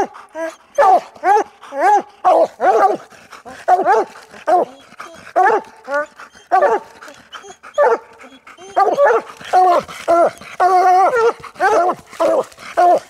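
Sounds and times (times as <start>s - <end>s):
hound bawling: 0.0s - 13.0s
hounds barking: 0.0s - 13.0s.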